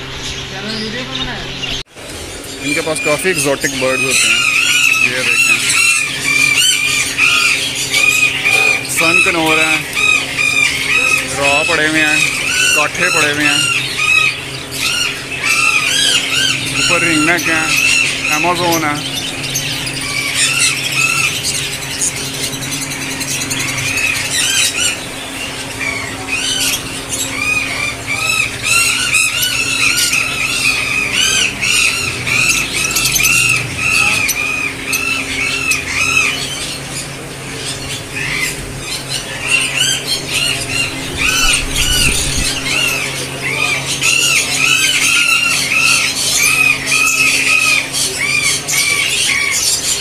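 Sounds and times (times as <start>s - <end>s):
parrots screeching: 0.0s - 50.0s
steady low hum: 0.0s - 50.0s.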